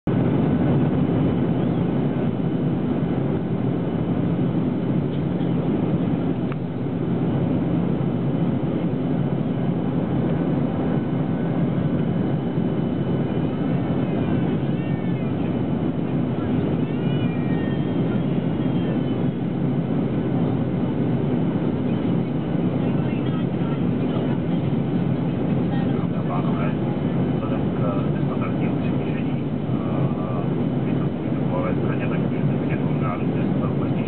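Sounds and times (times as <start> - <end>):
low hum: 0.0 - 34.0
jet engine drone: 0.1 - 34.0.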